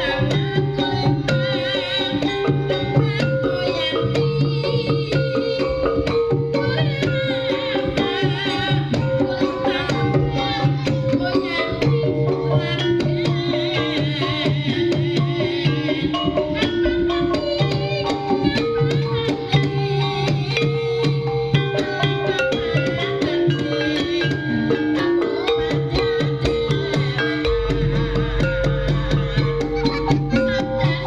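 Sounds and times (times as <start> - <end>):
wavering melody line: 0.0 - 14.6, 20.7 - 31.0
drum strokes: 0.0 - 31.0
metallophone notes: 0.0 - 31.0.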